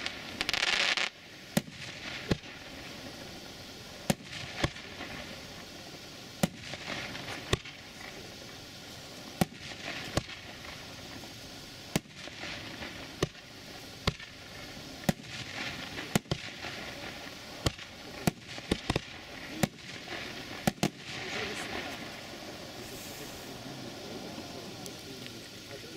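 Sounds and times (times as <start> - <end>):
fireworks bursts hissing: 0.0 - 25.9
fireworks reports: 0.0 - 25.9.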